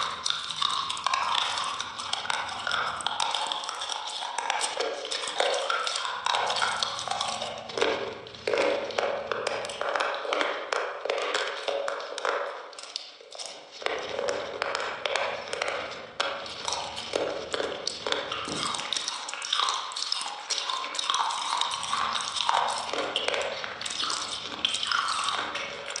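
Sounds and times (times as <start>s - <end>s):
person chewing soft food: 0.0s - 26.0s.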